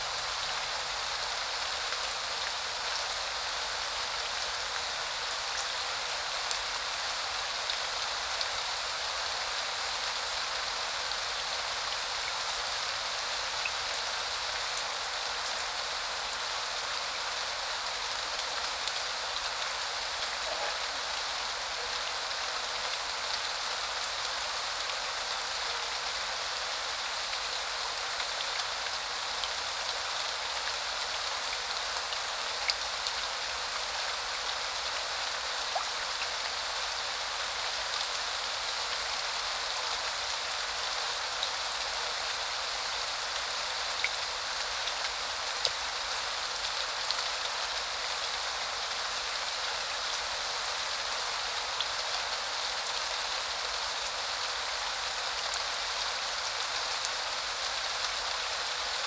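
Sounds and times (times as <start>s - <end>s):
rain falling on surfaces: 0.0s - 59.0s.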